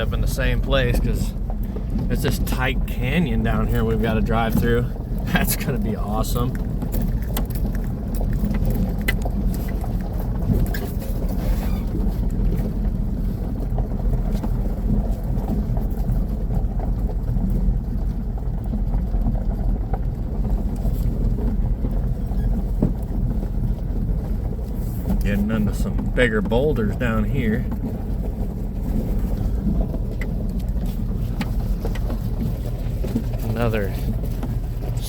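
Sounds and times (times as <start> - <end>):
knocks and rattles over rocks: 0.0 - 35.0
vehicle engine running: 0.0 - 35.0.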